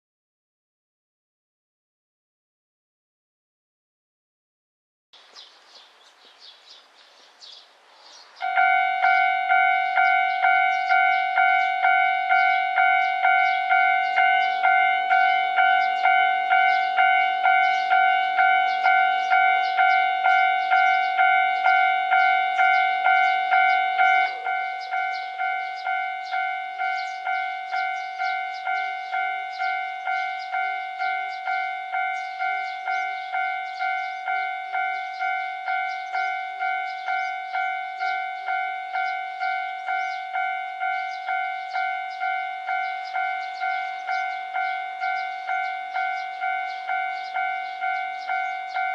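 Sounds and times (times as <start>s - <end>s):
level-crossing warning bell: 8.4s - 48.9s.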